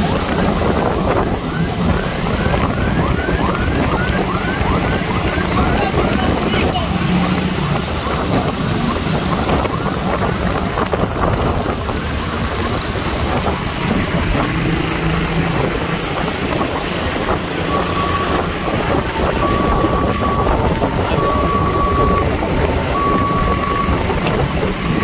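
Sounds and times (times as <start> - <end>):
road and wind noise: 0.0 - 25.0
vehicle running: 0.0 - 25.0.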